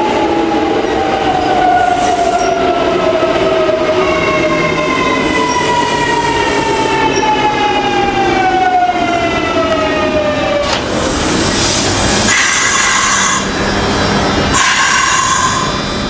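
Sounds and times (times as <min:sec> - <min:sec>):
electric train inverter whine: 0:00.0 - 0:16.0.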